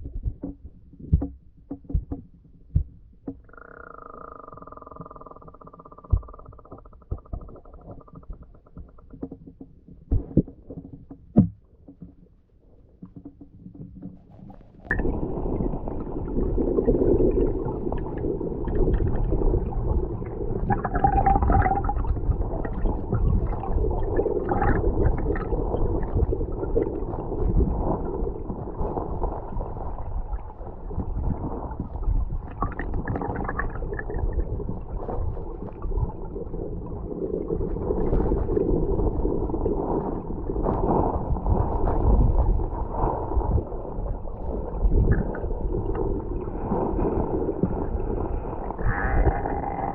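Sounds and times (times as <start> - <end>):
underwater gurgle of moving water: 0.0 - 49.9.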